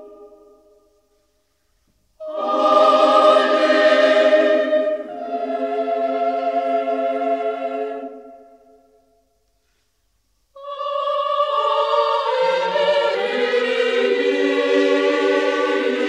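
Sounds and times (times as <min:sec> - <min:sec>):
choir holding chords: 0:00.0 - 0:01.0, 0:02.2 - 0:09.3, 0:10.6 - 0:16.0.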